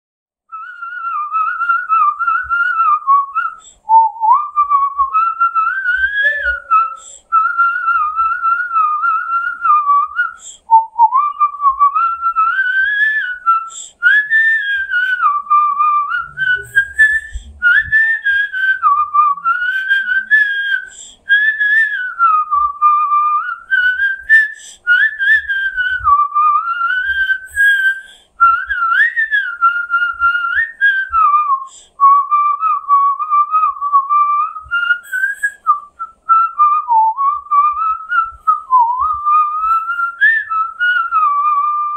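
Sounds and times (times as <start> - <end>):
man whistling a melody: 0.5 - 41.9.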